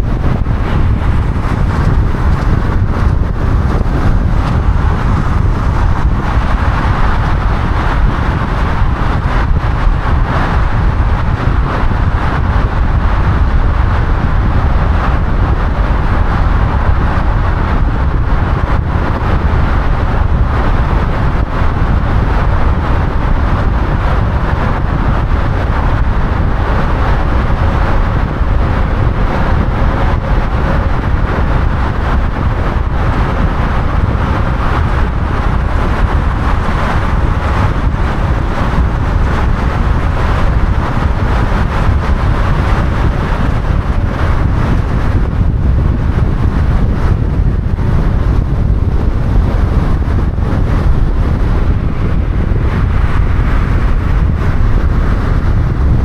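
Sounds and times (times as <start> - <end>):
car road noise rumble: 0.0 - 56.0.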